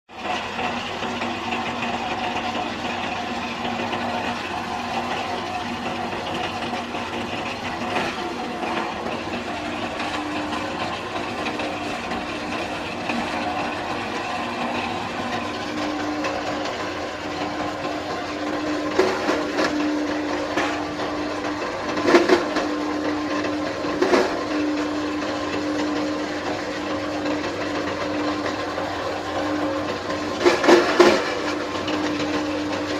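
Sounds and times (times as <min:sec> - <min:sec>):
farm machine humming: 0:00.1 - 0:32.9
material crunching in machine: 0:00.1 - 0:32.9.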